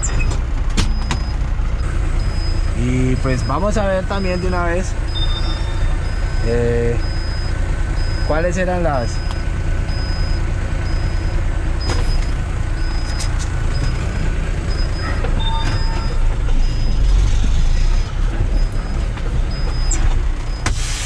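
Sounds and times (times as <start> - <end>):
truck diesel engine rumbling: 0.0 - 21.0
high warning beep: 2.2 - 17.2, 18.5 - 20.8.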